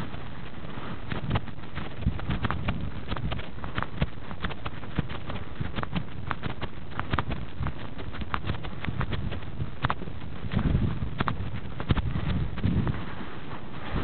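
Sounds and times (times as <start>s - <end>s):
running footsteps on snow: 0.0s - 14.0s
wind rumble: 0.0s - 14.0s.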